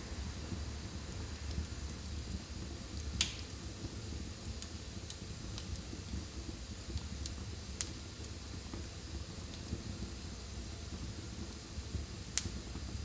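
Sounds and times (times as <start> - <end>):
fire crackles and pops: 0.0 - 13.0
fire rumbling in fireplace: 0.0 - 13.0.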